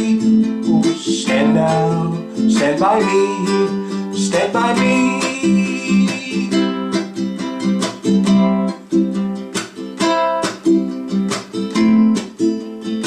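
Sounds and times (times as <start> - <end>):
ukulele strumming chords: 0.0 - 13.0.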